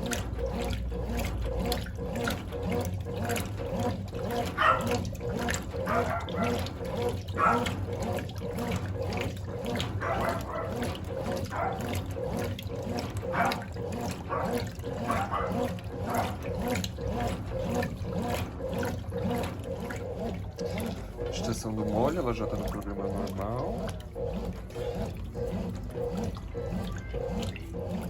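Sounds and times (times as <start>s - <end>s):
washing machine agitator motor: 0.0s - 28.0s
water sloshing and churning: 0.0s - 28.0s.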